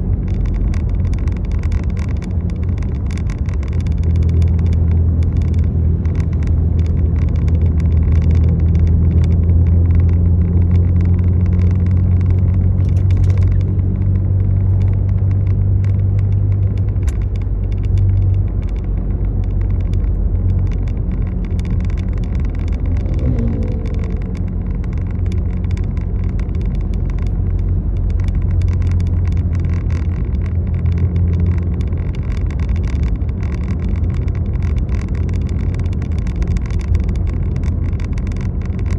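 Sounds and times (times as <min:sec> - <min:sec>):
rising whine: 0:00.0 - 0:38.9
vehicle engine rumble: 0:00.0 - 0:38.9
faint high ticks: 0:00.2 - 0:38.9.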